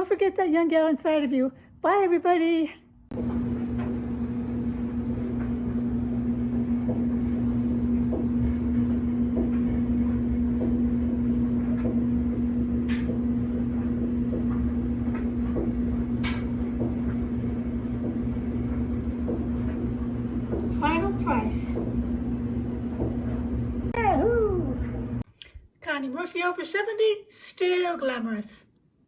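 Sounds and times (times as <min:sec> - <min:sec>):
steady mechanical hum: 0:00.0 - 0:25.3.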